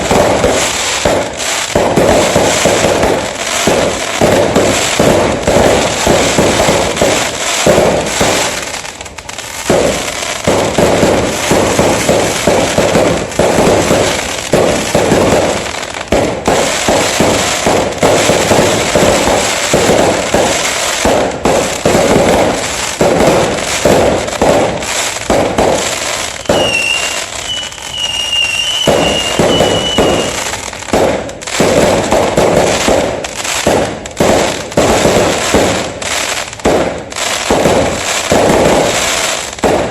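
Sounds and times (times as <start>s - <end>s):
fireworks bangs and crackles: 0.0s - 39.9s
fireworks high whistle: 0.0s - 39.9s.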